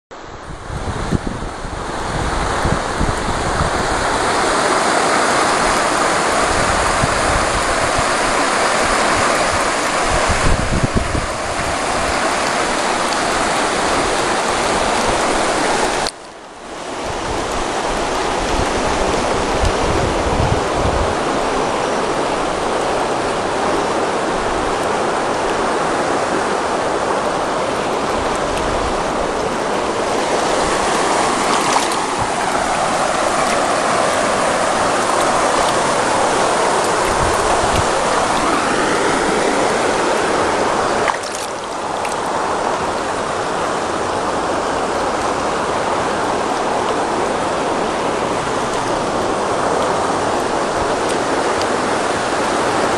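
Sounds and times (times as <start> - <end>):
river rushing: 0.1 - 52.9.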